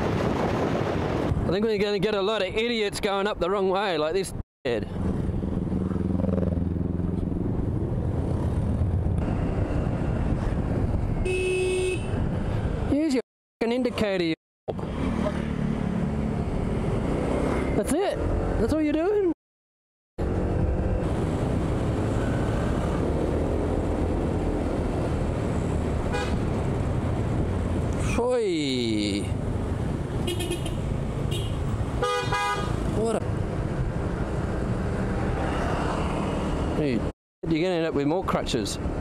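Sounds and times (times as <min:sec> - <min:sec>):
road noise: 0:00.0 - 0:19.4, 0:20.2 - 0:39.0.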